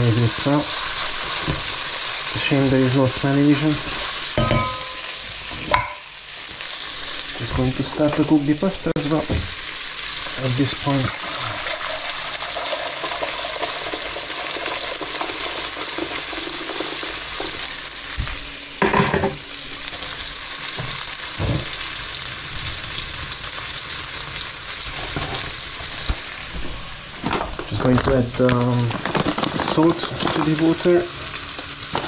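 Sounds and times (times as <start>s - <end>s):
bacon sizzling in frying pan: 0.0s - 32.0s.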